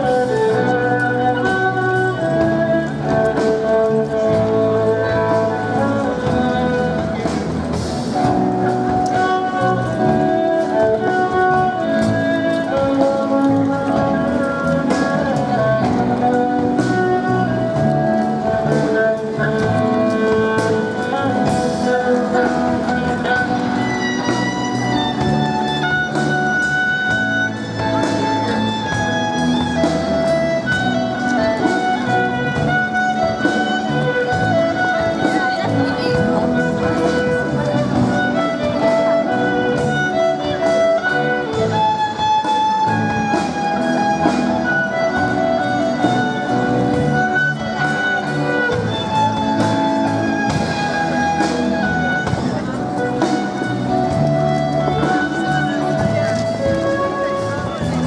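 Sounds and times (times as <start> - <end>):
drums: 0.0 - 58.0
electric guitar: 0.0 - 58.0
live band music: 0.0 - 58.0
violin: 0.0 - 58.0.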